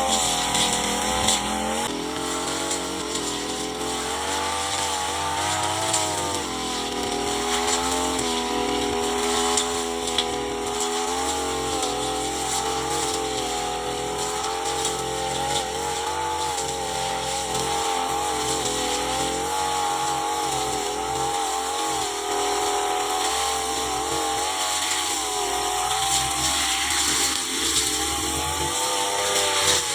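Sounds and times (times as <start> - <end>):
brush cutter engine running: 0.0 - 29.9.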